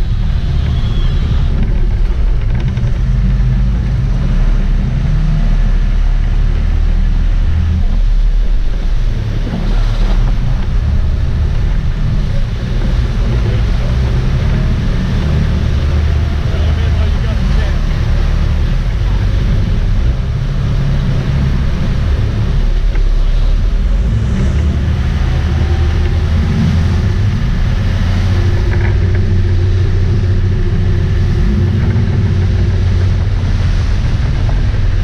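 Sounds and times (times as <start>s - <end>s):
boat diesel engines rumbling: 0.0s - 35.0s
churning water: 0.0s - 35.0s
wind buffeting microphone: 0.0s - 35.0s.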